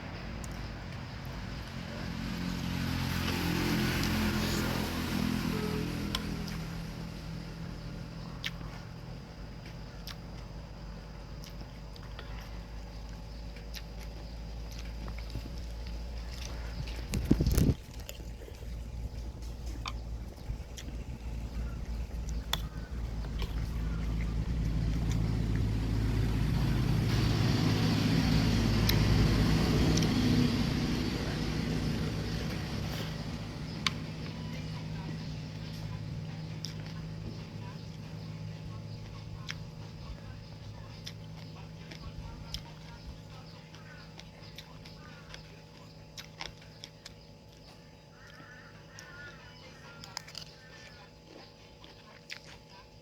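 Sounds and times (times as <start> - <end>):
vehicle engine humming: 0.0 - 53.0
person chewing noodle soup: 8.1 - 27.5, 28.1 - 53.0.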